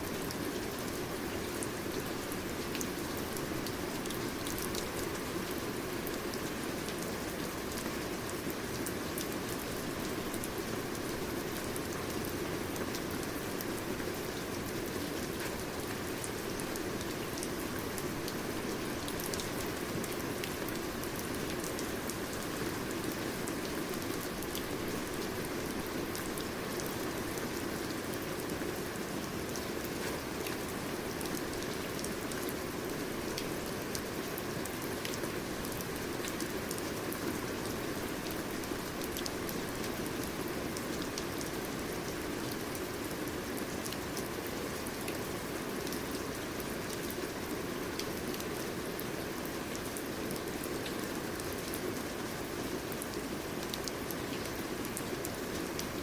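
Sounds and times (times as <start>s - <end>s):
rain falling: 0.0s - 56.0s
raindrops ticking on a surface: 0.1s - 56.0s.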